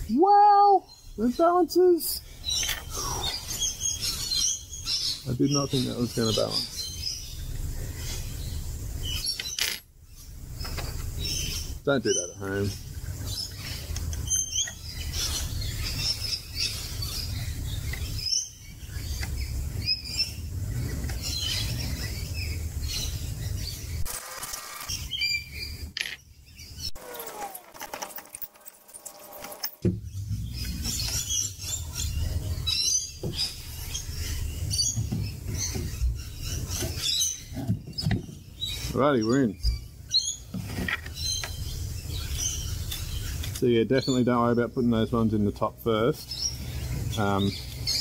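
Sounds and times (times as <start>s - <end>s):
birds chirping and calling: 0.0s - 48.0s.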